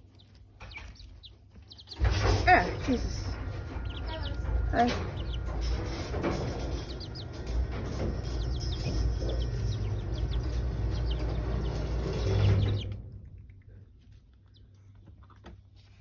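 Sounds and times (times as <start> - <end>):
steady rustling: 0.0 - 14.4
chicks peeping: 0.0 - 16.0.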